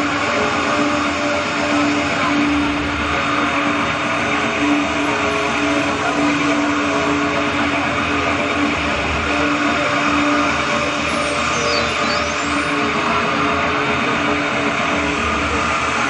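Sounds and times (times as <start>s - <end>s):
droning music over loudspeakers: 0.0s - 16.0s.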